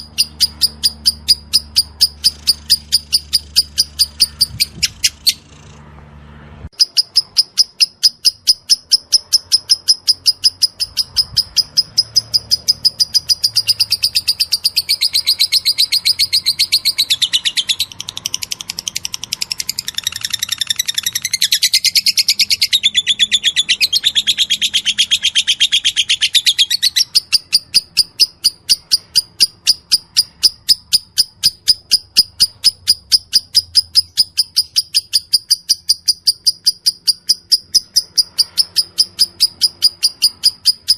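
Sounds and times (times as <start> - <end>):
bird chattering high chirps: 0.0 - 5.8, 6.7 - 40.9.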